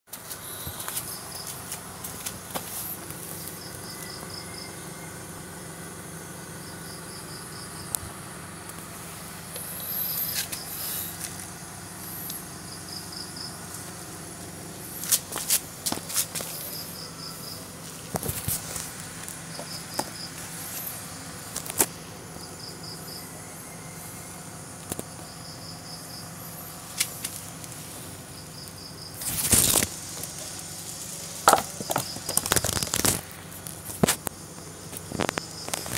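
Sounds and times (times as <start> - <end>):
steady low hum: 0.1 - 35.9
cricket chirping trills: 0.2 - 35.9.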